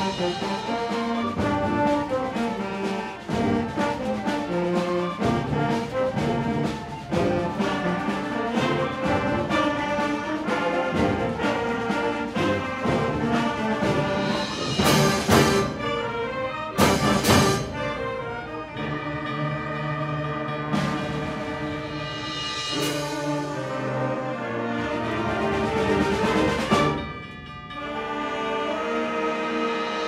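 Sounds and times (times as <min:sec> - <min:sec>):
concert band playing: 0:00.0 - 0:30.0.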